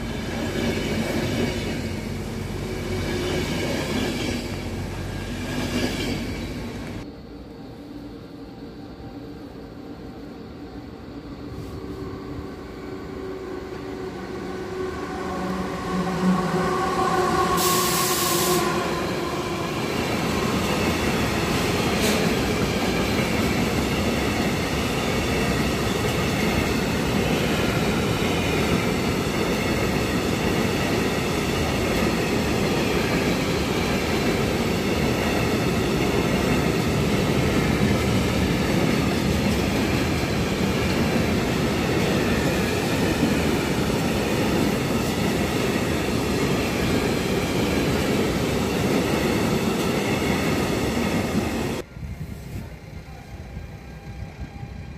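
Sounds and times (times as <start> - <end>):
locomotive hum: 0.0 - 54.9.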